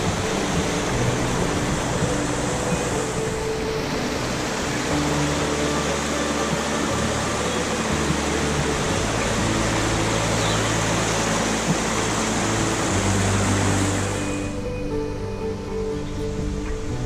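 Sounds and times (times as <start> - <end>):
background music with low notes: 0.0 - 17.0
steady rushing noise: 0.0 - 17.0.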